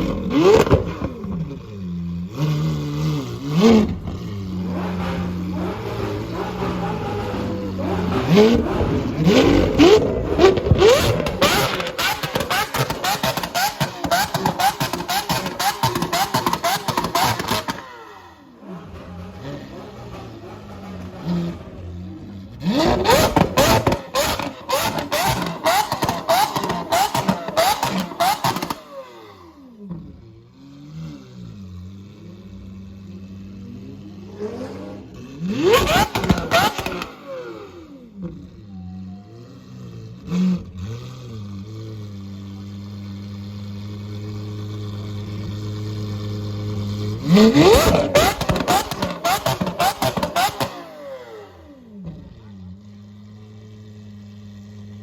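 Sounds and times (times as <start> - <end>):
exhaust cracks: 0.0 - 30.4, 31.0 - 38.6, 40.2 - 54.9
sports car engine revving: 0.0 - 55.0.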